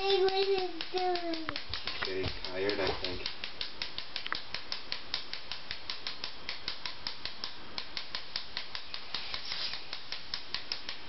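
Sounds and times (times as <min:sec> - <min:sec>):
wind-up toy clockwork ticking: 0:00.0 - 0:11.0.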